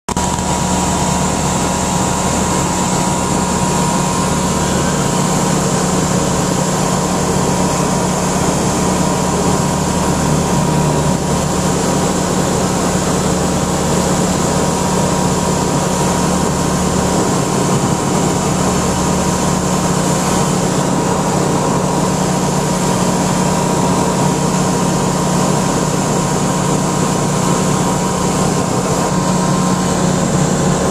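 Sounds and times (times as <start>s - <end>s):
light aircraft engine drone: 0.1s - 30.9s.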